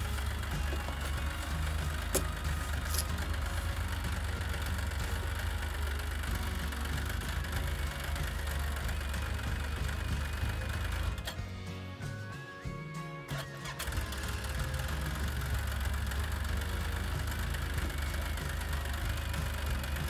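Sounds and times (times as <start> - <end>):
snowmobile engine idling: 0.0 - 12.2, 13.4 - 20.0.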